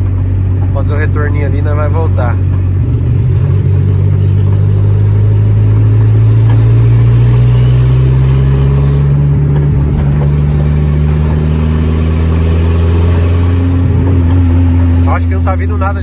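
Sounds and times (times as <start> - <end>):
turbocharged engine pulling: 0.0 - 16.0.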